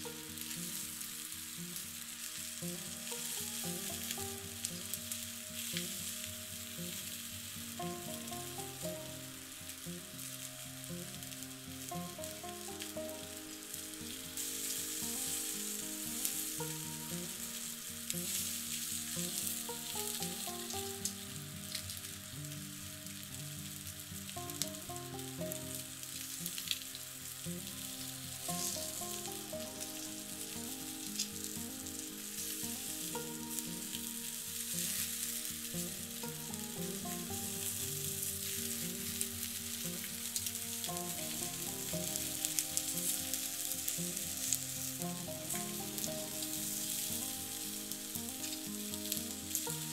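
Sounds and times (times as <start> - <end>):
food sizzling: 0.0 - 49.9
sharp pops and crackles: 0.0 - 49.9
slow melodic background music: 0.0 - 49.9.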